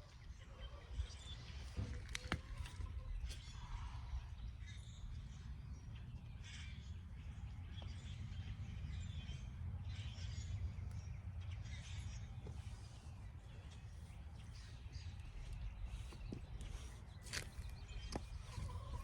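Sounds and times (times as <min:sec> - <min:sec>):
birds calling: 0:00.0 - 0:19.0
steady low rumble: 0:00.9 - 0:19.0.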